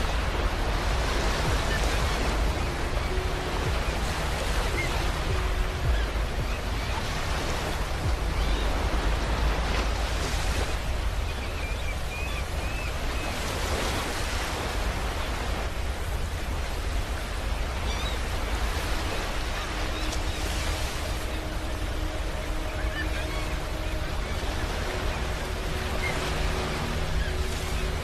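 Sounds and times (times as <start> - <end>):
ocean waves on a beach: 0.0 - 28.0.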